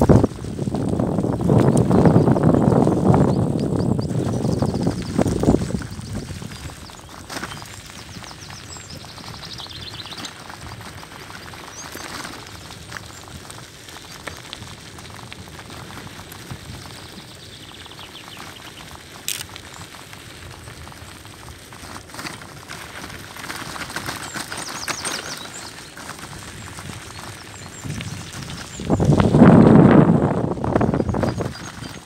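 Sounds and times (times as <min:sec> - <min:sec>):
bicycle tyre and road noise: 0:00.0 - 0:32.0
bike rattling: 0:00.0 - 0:32.0.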